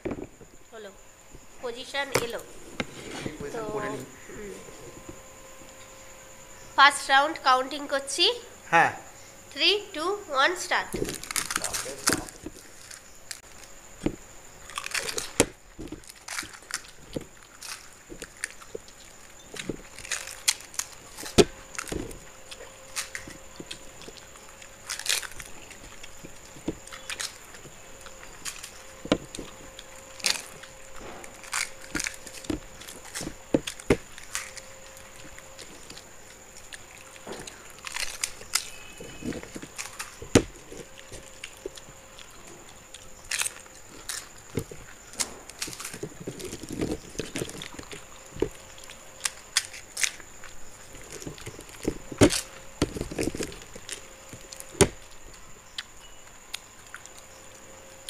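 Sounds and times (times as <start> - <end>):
people chewing: 2.1 - 5.9, 10.9 - 58.0
crisp shells crunching: 11.0 - 58.0.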